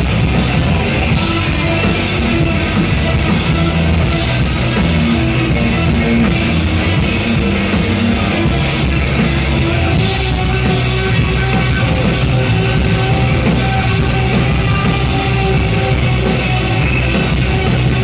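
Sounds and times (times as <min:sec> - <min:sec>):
live rock band playing loud: 0:00.0 - 0:18.0.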